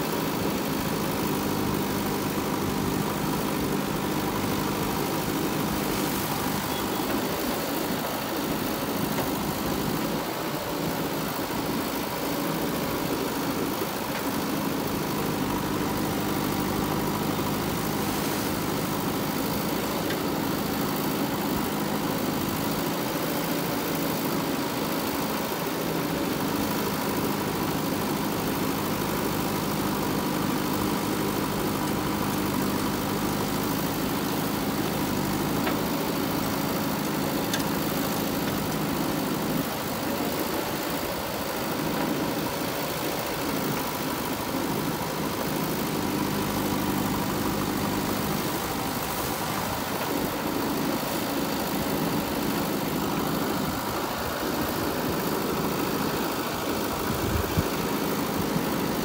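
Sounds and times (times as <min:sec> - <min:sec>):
diesel engine running: 0:00.0 - 0:59.0
high hydraulic whine: 0:00.0 - 0:59.0.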